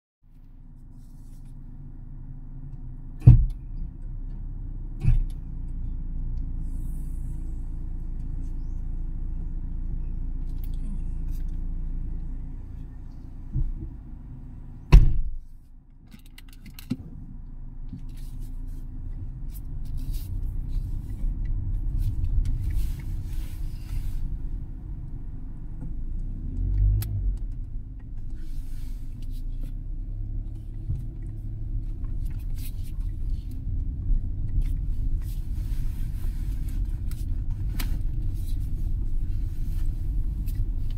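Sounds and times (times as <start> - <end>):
motor vehicle rumbling: 0.2 - 40.9.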